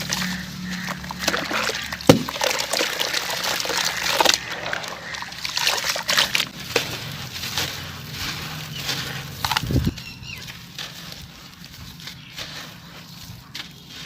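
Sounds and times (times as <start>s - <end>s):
sand-cement crumbling: 0.0s - 14.0s.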